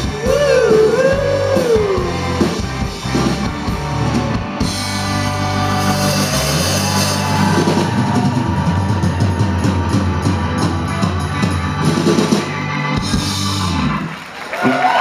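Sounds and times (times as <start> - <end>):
busy drum kit playing: 0.0 - 14.2
live rock band playing: 0.0 - 15.0.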